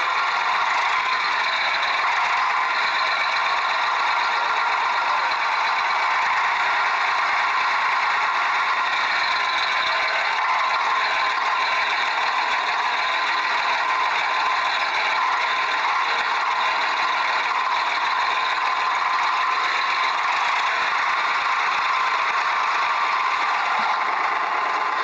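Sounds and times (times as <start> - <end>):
toy tractor whirring buzz: 0.0 - 25.0.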